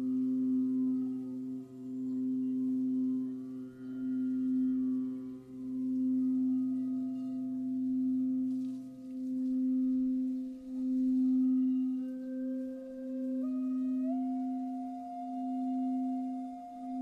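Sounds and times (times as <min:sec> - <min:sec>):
bamboo flute notes: 0:00.0 - 0:17.0
singing bowl humming: 0:00.0 - 0:17.0.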